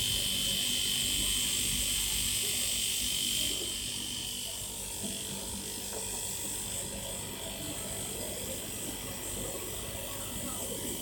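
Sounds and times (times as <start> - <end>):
refrigerator compressor humming: 0.0 - 11.0.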